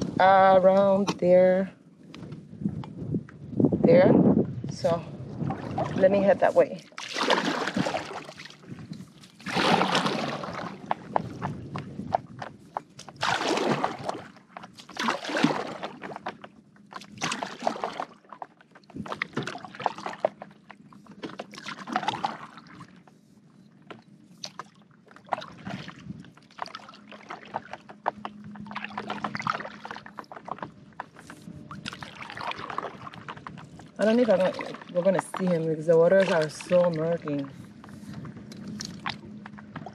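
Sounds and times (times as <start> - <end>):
paddle splashing through water: 4.8 - 23.3, 23.9 - 39.9.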